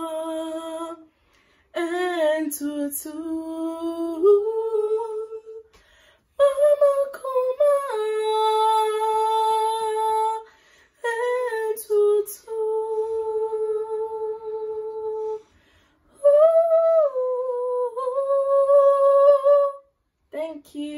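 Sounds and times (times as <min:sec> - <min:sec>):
young woman singing unaccompanied: 0:01.8 - 0:05.7, 0:06.4 - 0:15.5, 0:16.2 - 0:20.9.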